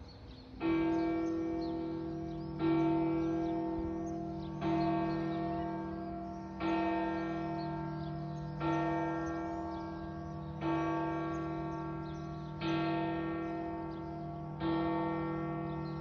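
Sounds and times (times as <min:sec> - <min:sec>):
church bell tolling: 0:00.6 - 0:16.0.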